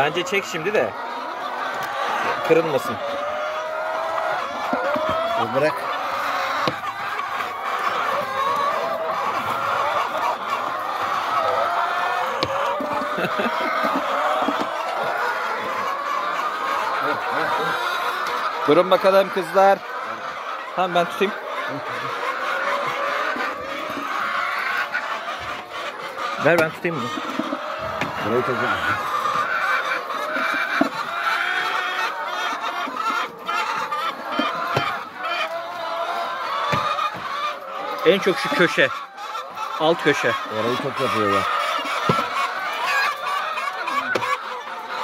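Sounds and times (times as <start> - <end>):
hens clucking: 0.0 - 45.0.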